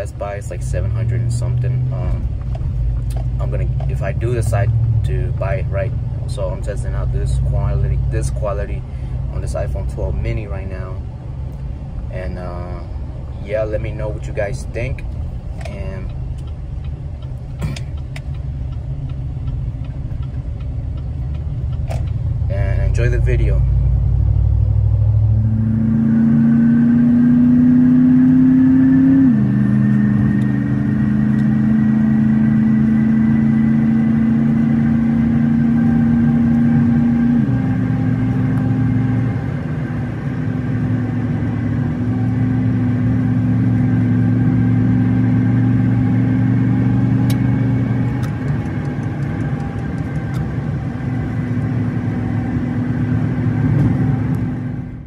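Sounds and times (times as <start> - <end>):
engine and road drone: 0.0 - 55.0.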